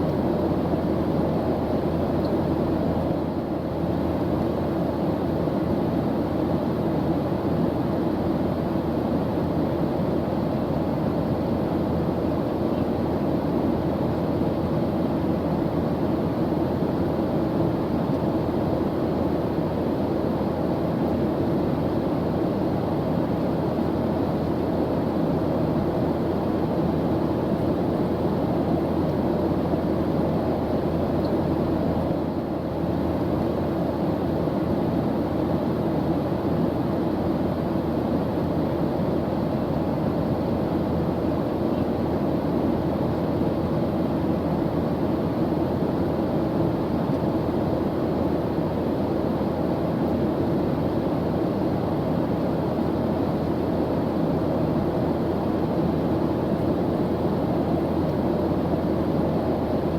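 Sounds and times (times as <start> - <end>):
airplane engine drone: 0.0 - 59.9.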